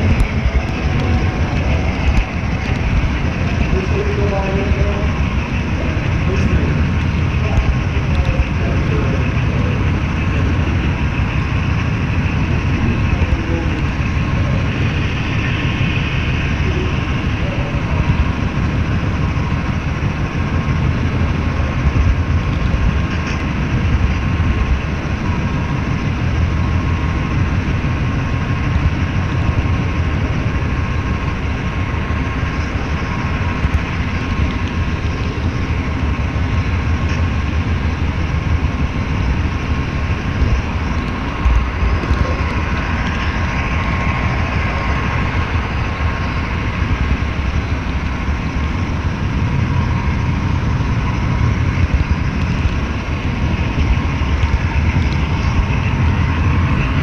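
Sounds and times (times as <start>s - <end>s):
close rumble: 0.0s - 57.0s.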